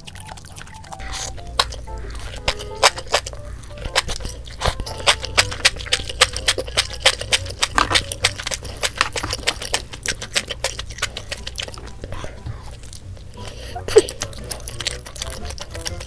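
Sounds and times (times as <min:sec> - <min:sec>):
crisp food being chewed: 0:00.0 - 0:16.0
eating utensils clicking: 0:00.0 - 0:16.0.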